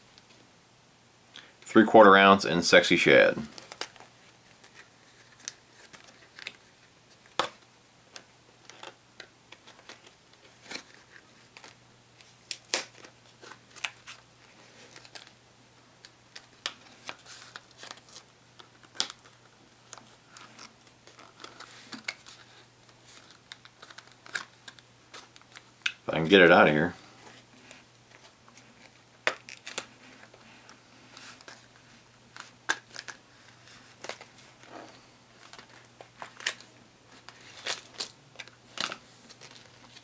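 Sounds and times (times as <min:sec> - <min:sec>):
plastic packaging crinkling and snapping: 0:03.5 - 0:15.4, 0:16.0 - 0:26.0, 0:27.2 - 0:40.0.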